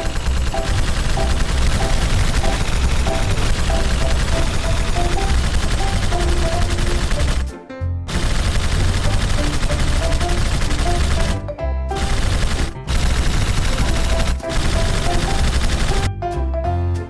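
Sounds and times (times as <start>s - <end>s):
loud dense crackling noise: 0.0s - 7.5s, 8.1s - 11.4s, 12.0s - 16.1s.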